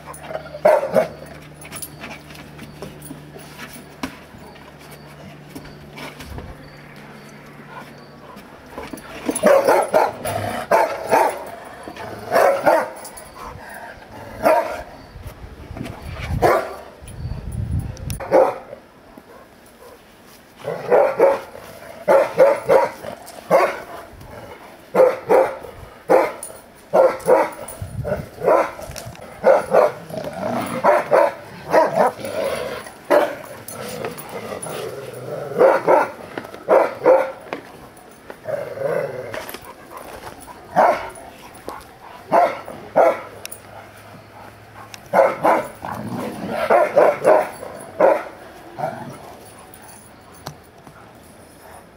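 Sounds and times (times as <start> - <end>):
dogs barking: 0.0 - 2.3, 5.6 - 15.1, 16.3 - 17.0, 18.1 - 51.9.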